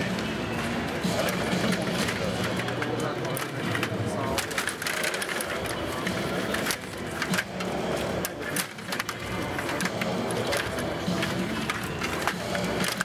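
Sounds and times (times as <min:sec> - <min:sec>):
table hockey rods clicking and clattering: 0:00.0 - 0:13.0.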